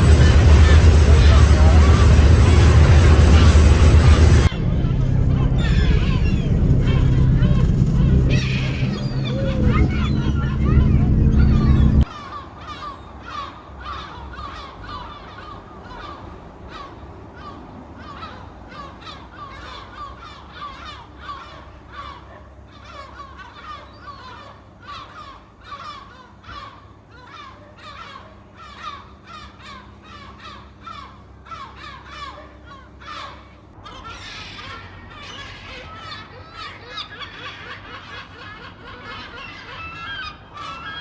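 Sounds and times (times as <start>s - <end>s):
gulls calling: 0.0s - 17.0s, 19.2s - 41.0s.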